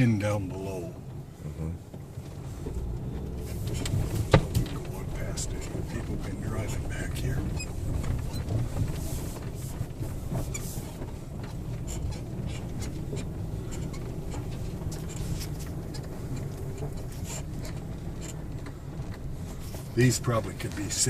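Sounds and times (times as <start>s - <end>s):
engine and tyres rumbling: 0.0s - 21.0s
clicks and rattles: 2.6s - 21.0s.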